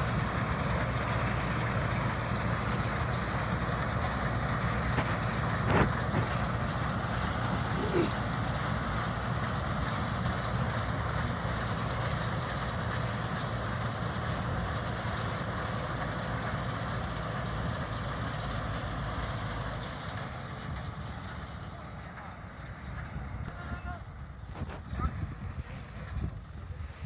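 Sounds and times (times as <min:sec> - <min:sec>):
tractor and baler drone: 0:00.0 - 0:27.0.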